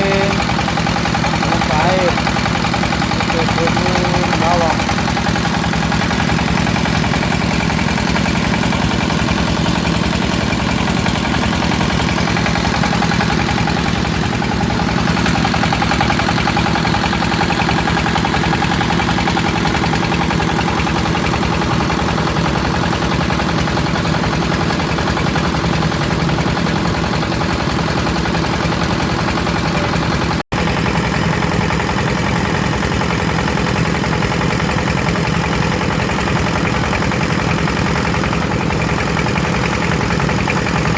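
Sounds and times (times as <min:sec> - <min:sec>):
water pump motor humming: 0:00.0 - 0:40.9.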